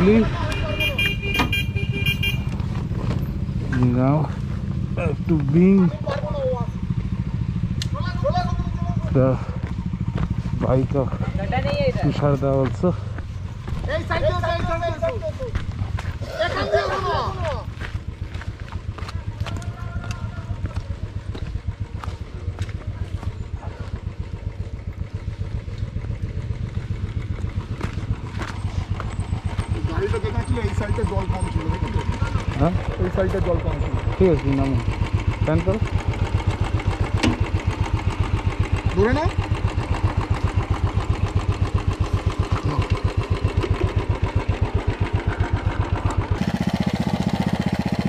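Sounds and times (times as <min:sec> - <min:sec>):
motorcycle engine idling: 0:00.0 - 0:48.0.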